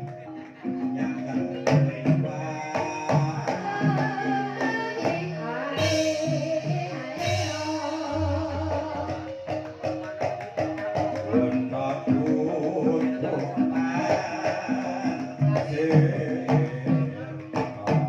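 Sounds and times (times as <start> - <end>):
gamelan struck tones: 0.0 - 18.0.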